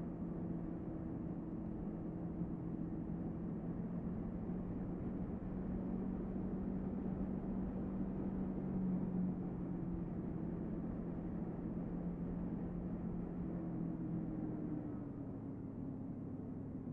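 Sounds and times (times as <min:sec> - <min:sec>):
wind and road noise: 0:00.1 - 0:16.9.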